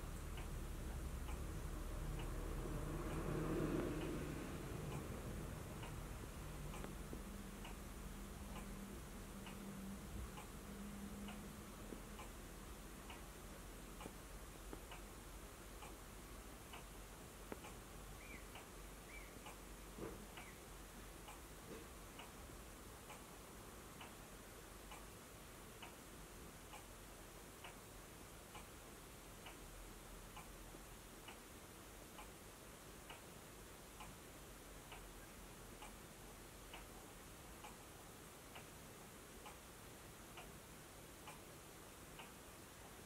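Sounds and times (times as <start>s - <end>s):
clock ticking: 0.0s - 43.0s.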